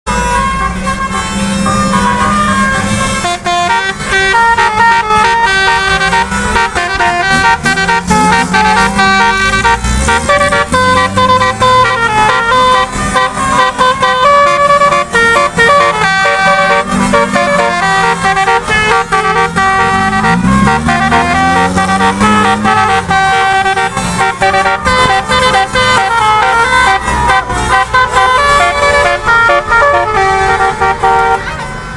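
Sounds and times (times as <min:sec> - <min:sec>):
multi-tone bus horn melody: 0:00.1 - 0:31.9.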